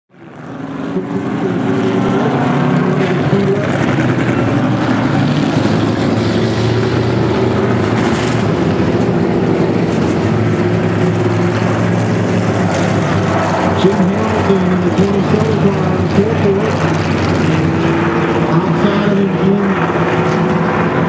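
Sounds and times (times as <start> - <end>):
race car engines running: 0.1 - 21.0.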